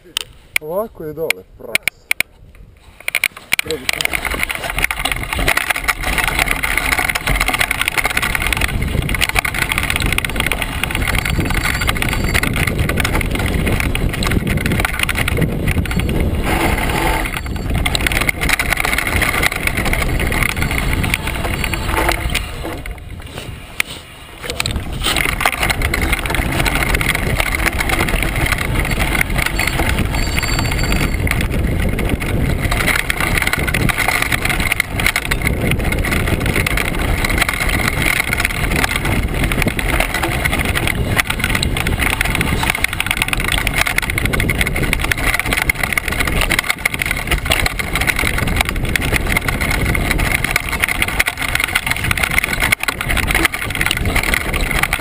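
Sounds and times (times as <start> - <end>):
wind buffeting microphone: 0.6 - 55.0
mountain bike rattling over rocks: 3.0 - 55.0.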